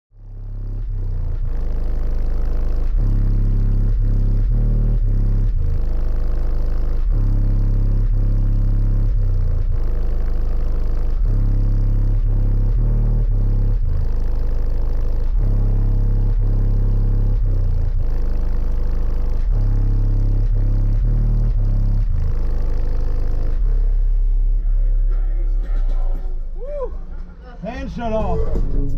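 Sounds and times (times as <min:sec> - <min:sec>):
bass-heavy music from subwoofers: 0:00.1 - 0:28.9.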